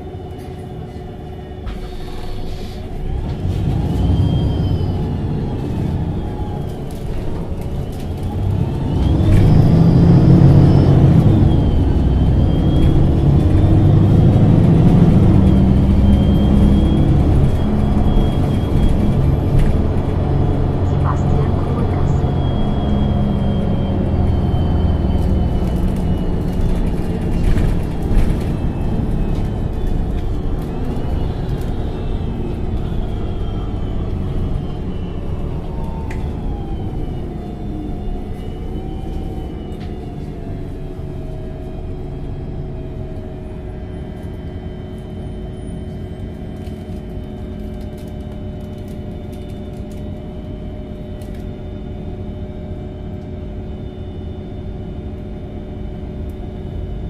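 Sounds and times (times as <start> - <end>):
whining tones gliding down: 0.0 - 56.9
bus engine rumble: 0.0 - 57.0.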